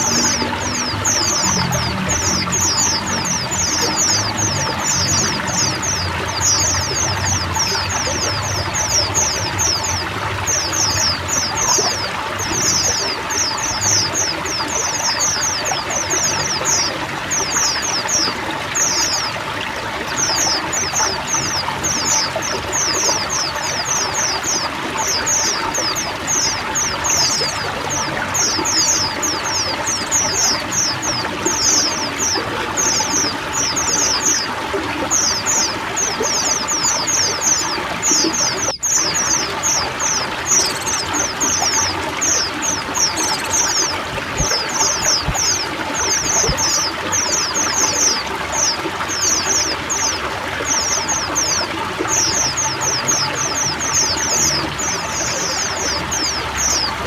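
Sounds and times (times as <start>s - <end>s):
birds chattering: 0.0s - 57.0s
running water pouring: 0.0s - 57.0s.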